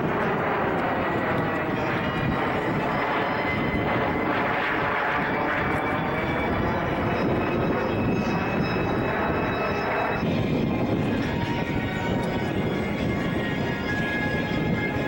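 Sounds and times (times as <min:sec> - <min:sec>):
airplane engine noise: 0:00.0 - 0:15.0.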